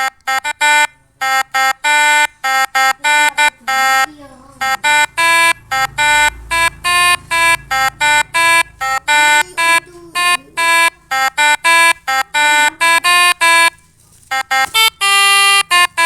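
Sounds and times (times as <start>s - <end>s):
multi-tone bus horn melody: 0.0s - 16.0s.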